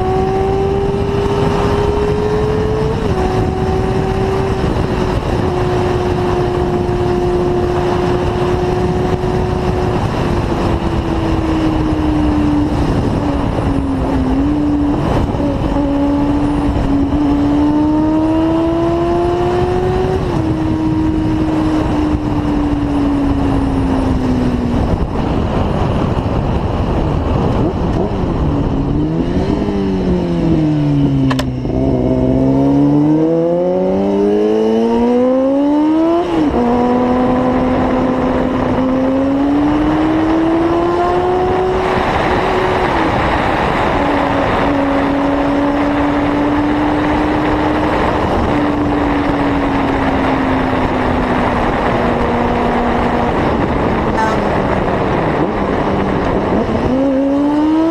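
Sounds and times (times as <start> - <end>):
heavy wind noise: 0.0 - 57.9
motorcycle engine running: 0.0 - 57.9
road noise: 0.0 - 57.9.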